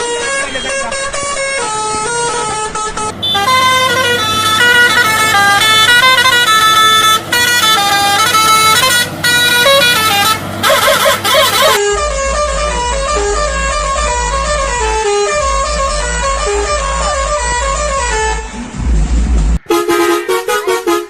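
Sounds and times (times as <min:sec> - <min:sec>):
truck musical horn: 0:00.0 - 0:21.0.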